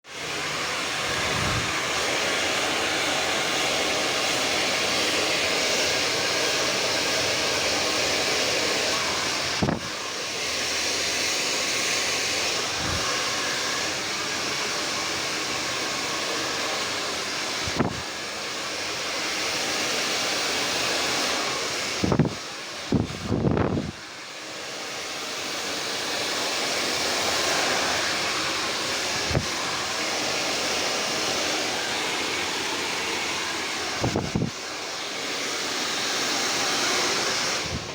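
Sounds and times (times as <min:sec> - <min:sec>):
hair dryer blowing: 0:00.0 - 0:37.9.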